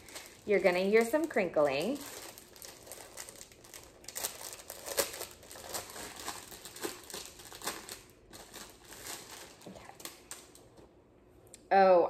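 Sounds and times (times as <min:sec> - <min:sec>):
packaging crinkling: 0:00.0 - 0:10.8.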